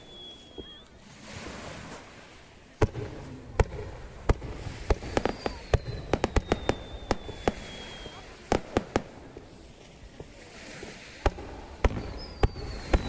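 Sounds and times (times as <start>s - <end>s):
fireworks bursting bangs: 0.0s - 13.0s.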